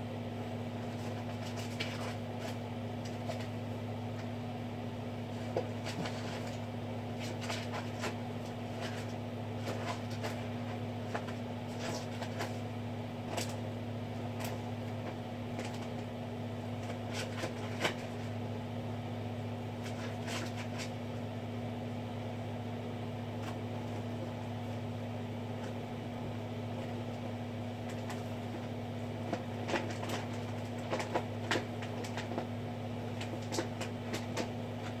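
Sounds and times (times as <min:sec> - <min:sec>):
aquarium equipment hum: 0:00.0 - 0:35.0.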